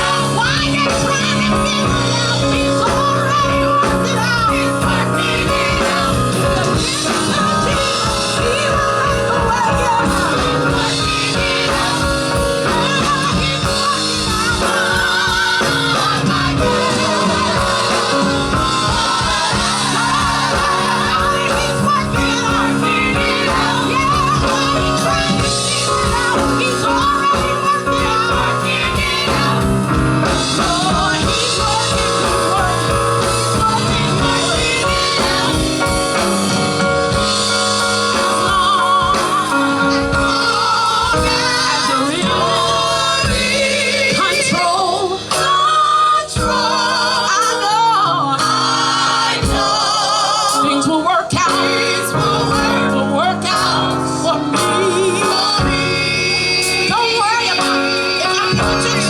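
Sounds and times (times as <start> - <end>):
band accompaniment: 0.0 - 59.0
drums beating steadily: 0.0 - 59.0
gospel vocal group singing: 0.0 - 59.0.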